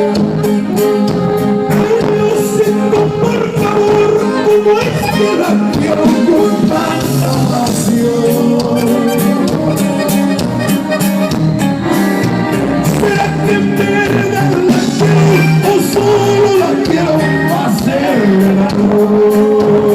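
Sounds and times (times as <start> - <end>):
mexican band music: 0.0 - 19.9.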